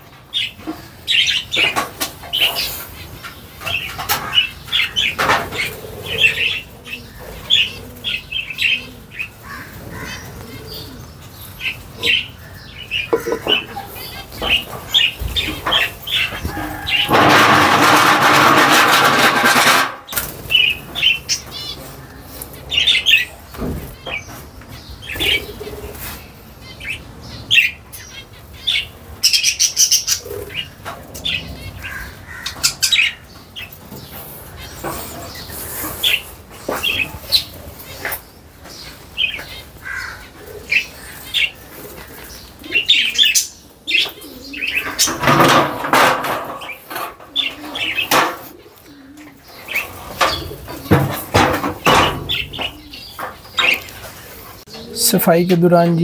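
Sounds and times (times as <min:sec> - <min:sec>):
parrots chirping and squawking: 0:00.0 - 0:55.1.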